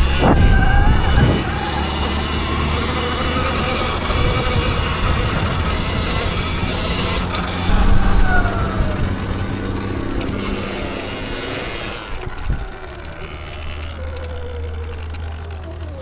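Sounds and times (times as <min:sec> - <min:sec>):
wind rumbling over microphone: 0:00.0 - 0:15.4
electric motor whine: 0:00.0 - 0:16.0
tyre noise on dirt: 0:00.0 - 0:16.0.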